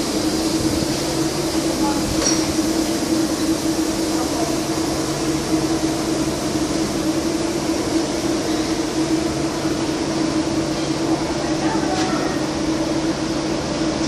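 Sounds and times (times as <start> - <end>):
fan-like whirr: 0.0 - 14.0
train equipment humming: 0.0 - 14.0.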